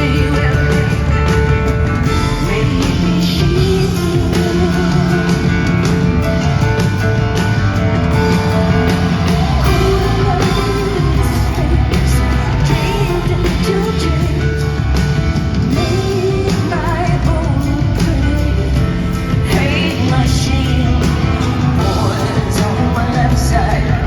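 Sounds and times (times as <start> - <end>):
woman singing: 0.0 - 1.4, 2.1 - 6.0, 9.4 - 24.0
drum hits: 0.0 - 24.0
live band music: 0.0 - 24.0.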